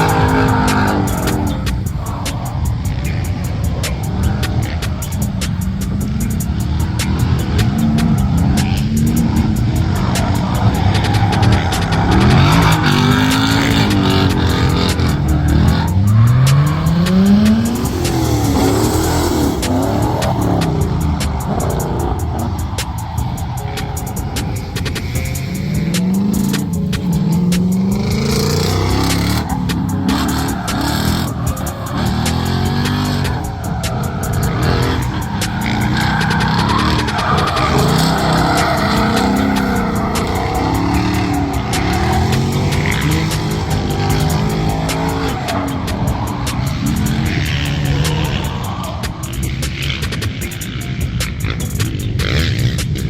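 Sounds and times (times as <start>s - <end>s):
car engine revving: 0.0s - 53.0s
tyre noise: 0.0s - 53.0s.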